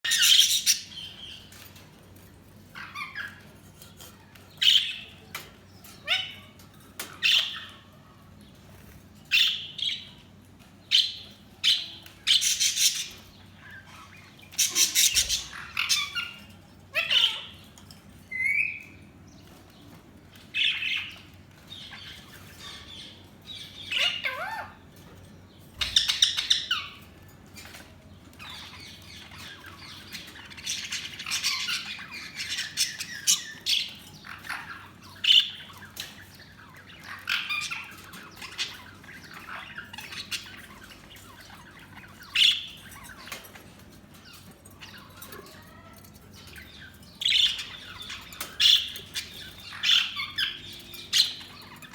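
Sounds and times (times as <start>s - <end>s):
budgerigars chirping and squawking: 0.0s - 51.9s.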